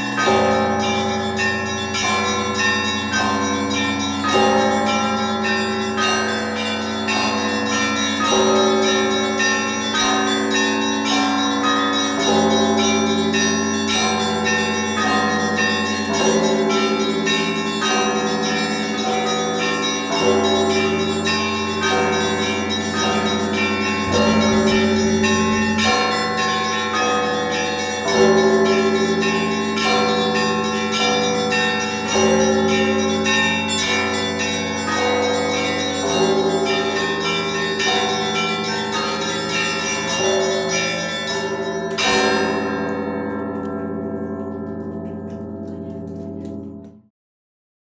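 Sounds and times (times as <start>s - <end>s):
heavy bell strokes: 0.0s - 45.2s
smaller bells ringing pattern: 0.0s - 46.8s.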